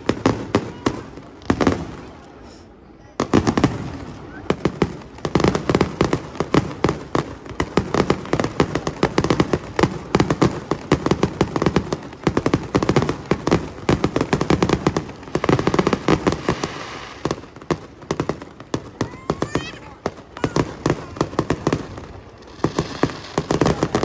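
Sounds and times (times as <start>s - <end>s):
deep fireworks booms: 0.0s - 24.0s
fireworks cracks and bangs: 0.0s - 24.0s.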